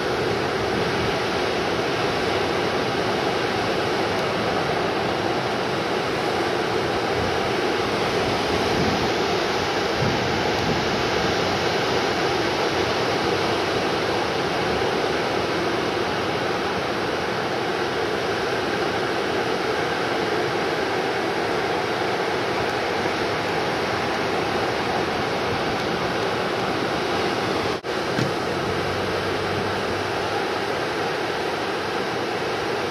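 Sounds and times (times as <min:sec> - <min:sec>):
ocean surf breaking: 0:00.0 - 0:32.9.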